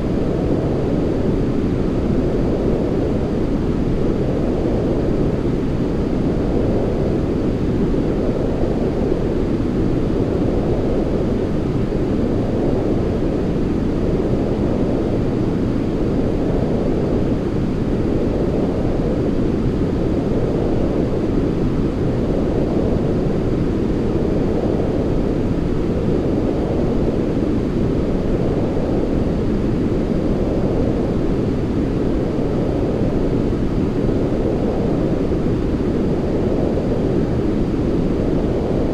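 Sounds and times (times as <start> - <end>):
deep white noise: 0.0 - 38.9.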